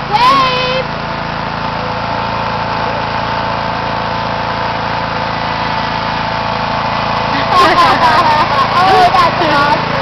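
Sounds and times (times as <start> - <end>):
small tractor engine running: 0.0 - 10.0.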